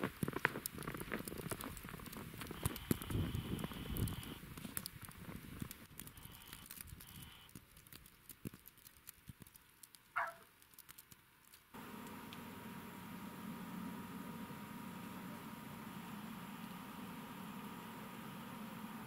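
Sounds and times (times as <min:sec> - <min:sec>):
faint steady hum: 0:00.1 - 0:07.8, 0:11.2 - 0:19.0.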